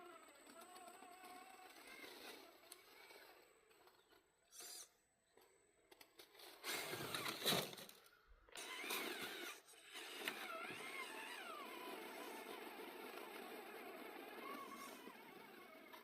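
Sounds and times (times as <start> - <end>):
electric motor and gearbox whining: 0.0 - 5.0, 6.1 - 16.0.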